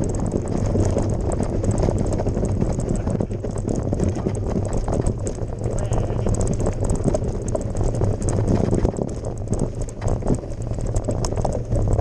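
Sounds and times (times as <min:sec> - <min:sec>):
mountain bike rattling on gravel: 0:00.0 - 0:12.0.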